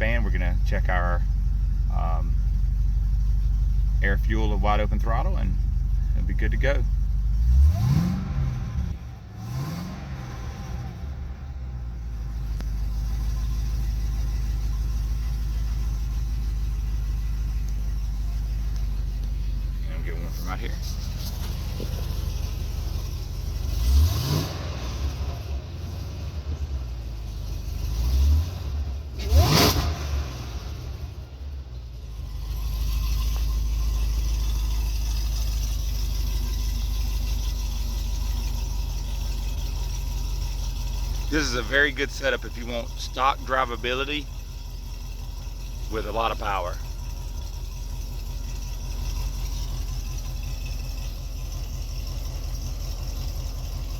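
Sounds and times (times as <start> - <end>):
car engine idling: 0.0 - 53.9
engine throttle blips: 0.0 - 53.9.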